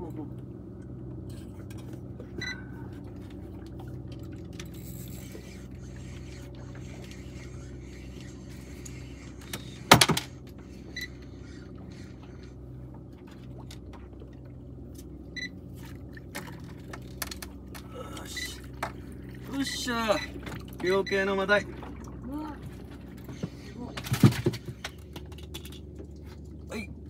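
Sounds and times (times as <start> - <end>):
outboard motor idling: 0.0 - 27.0.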